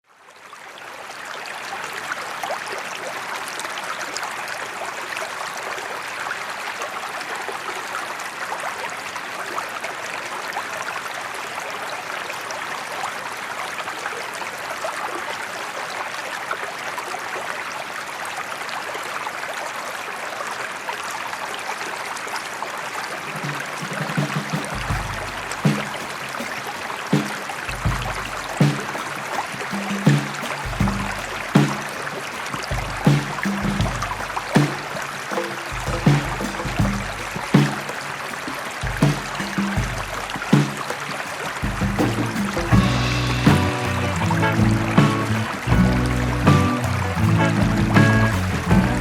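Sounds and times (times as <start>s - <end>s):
stream water rushing: 0.1s - 49.0s.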